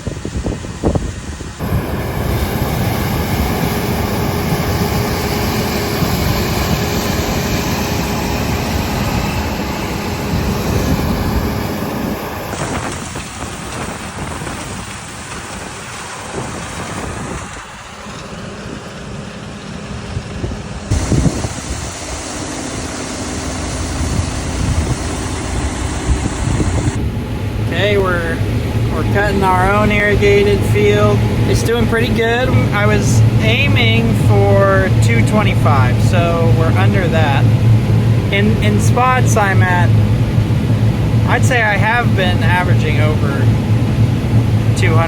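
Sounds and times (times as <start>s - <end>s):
heavy machinery rumbling: 0.0s - 45.0s.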